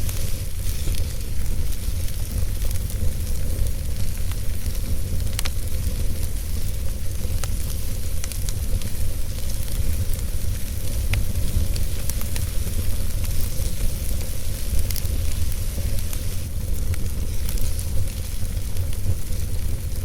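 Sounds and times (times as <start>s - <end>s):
fire flames rumbling and hissing: 0.0s - 20.0s
logs crackling and popping: 0.0s - 20.0s.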